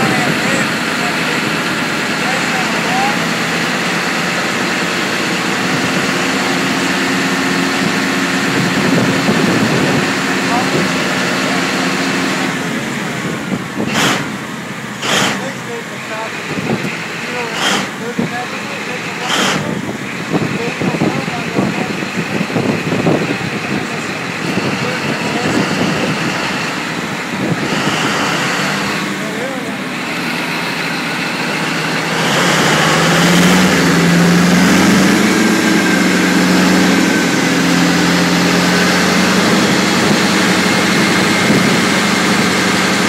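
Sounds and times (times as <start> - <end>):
diesel truck engine idling: 0.0 - 43.0.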